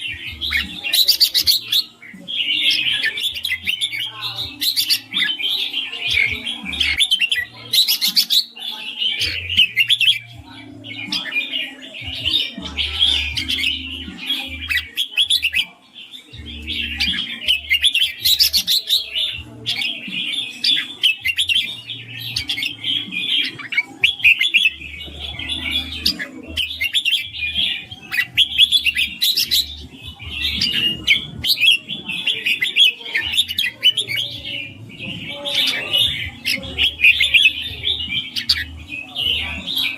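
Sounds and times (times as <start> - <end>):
bird singing and chirping: 0.0 - 39.9.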